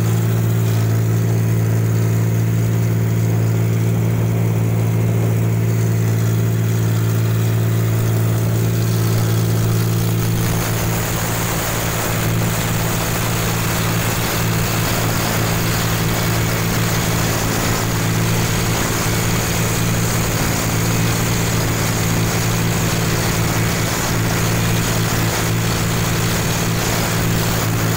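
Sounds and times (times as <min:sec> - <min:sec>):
harvester engine humming: 0:00.0 - 0:27.9
broad rushing noise: 0:02.8 - 0:27.9.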